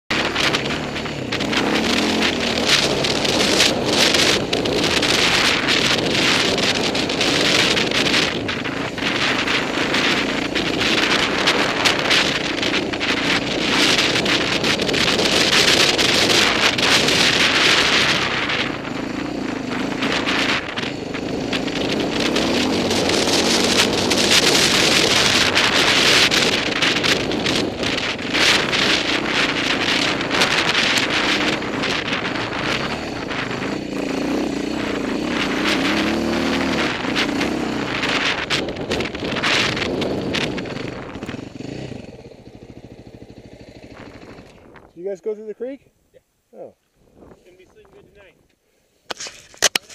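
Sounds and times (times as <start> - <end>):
wind buffeting microphone: 0.1 - 45.8, 46.6 - 48.5
dirt bike engine: 0.1 - 49.9.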